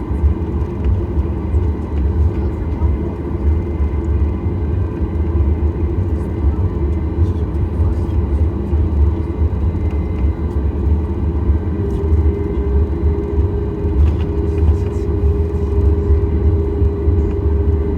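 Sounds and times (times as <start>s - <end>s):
airliner cabin rumble: 0.0s - 17.9s.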